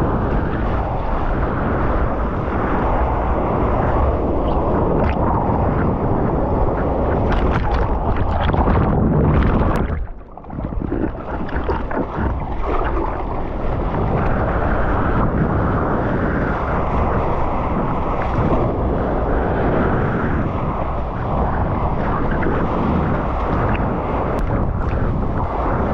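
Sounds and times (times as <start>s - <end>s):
heavy wind on microphone: 0.0s - 25.9s
rushing water: 0.0s - 25.9s.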